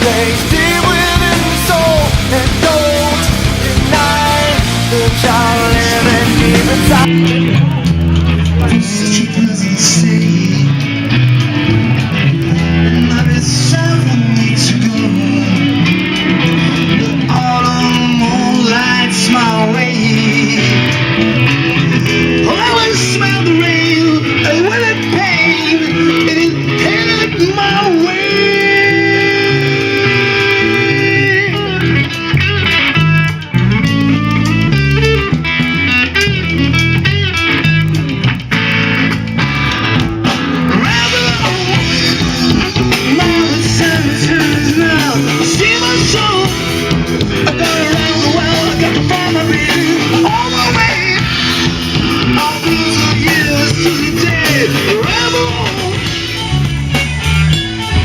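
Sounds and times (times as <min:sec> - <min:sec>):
rock song with guitar and singing: 0:00.0 - 0:58.0.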